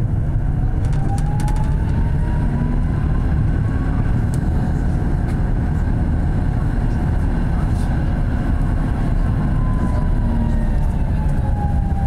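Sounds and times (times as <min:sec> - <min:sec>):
tram wheels rumbling: 0:00.0 - 0:12.0.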